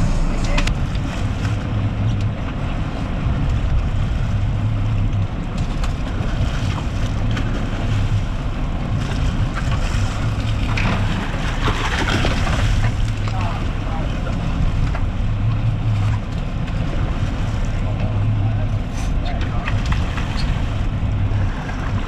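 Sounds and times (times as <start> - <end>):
boat engine humming: 0.0 - 22.0
sea noise: 0.0 - 22.0
wind: 0.0 - 22.0.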